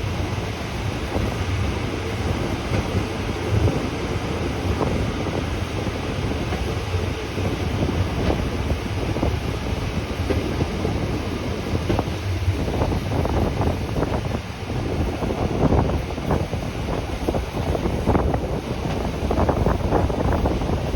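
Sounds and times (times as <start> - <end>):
train wheels rumbling on track: 0.0 - 20.9.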